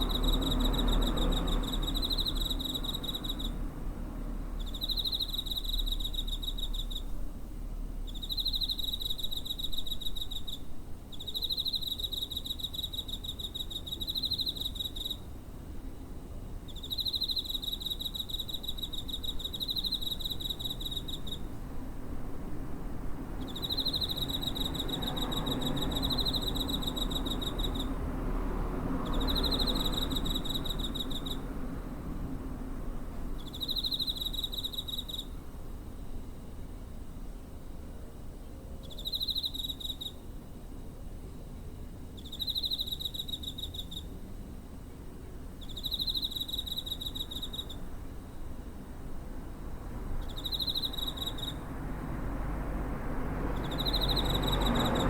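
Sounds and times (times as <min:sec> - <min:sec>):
cricket chirping: 0:00.0 - 0:07.2, 0:08.0 - 0:55.0.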